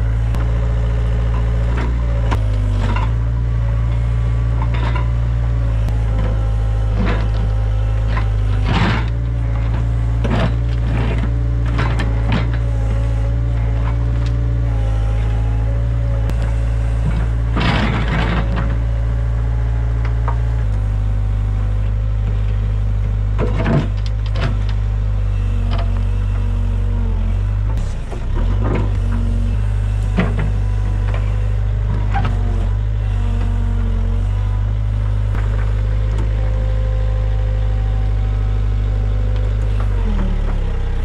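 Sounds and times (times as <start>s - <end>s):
clunks: 0.0s - 41.0s
excavator diesel engine running: 0.0s - 41.0s.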